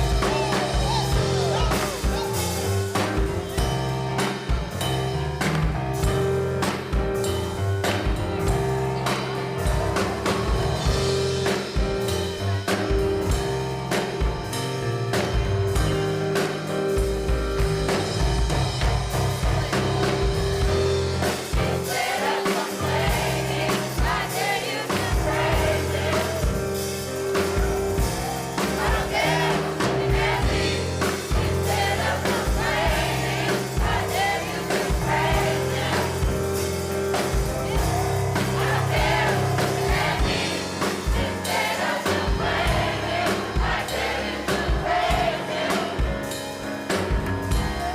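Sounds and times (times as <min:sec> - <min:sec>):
band with bass and drums: 0:00.0 - 0:47.9
choir singing gospel: 0:00.0 - 0:47.9.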